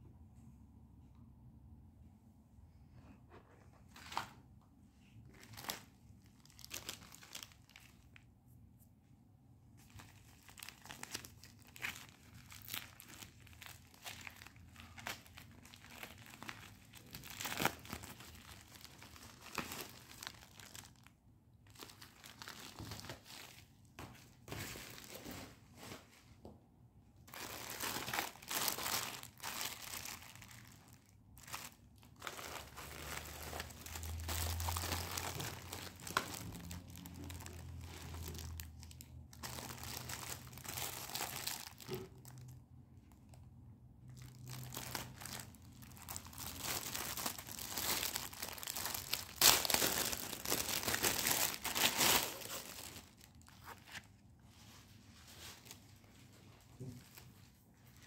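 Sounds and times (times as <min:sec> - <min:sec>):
packaging crinkling and rustling: 0:05.3 - 0:08.2, 0:09.8 - 0:26.1, 0:27.3 - 0:43.3, 0:44.1 - 0:58.0.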